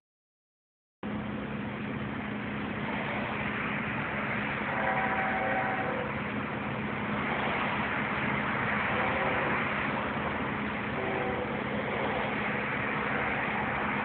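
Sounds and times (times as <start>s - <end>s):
diesel locomotive engine hum: 1.0s - 14.0s
train rumbling: 1.0s - 14.0s.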